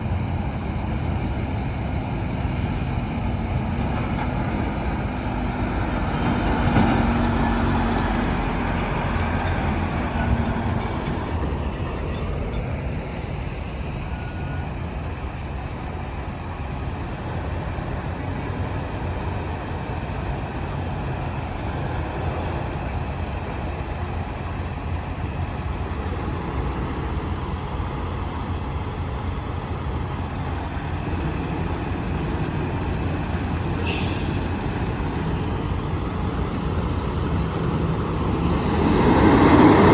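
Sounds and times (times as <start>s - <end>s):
heavy trucks passing: 0.0s - 39.9s
traffic drone: 0.0s - 39.9s.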